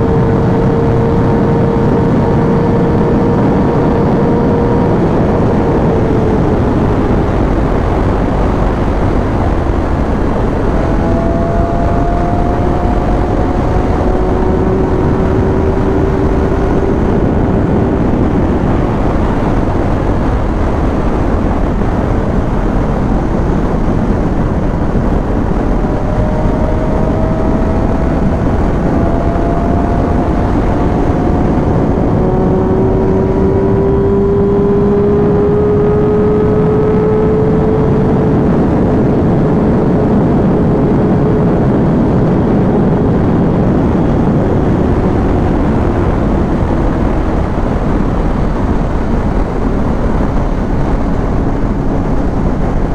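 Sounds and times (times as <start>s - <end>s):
loud rush of wind: 0.0s - 52.9s
motorcycle engine running: 0.0s - 52.9s.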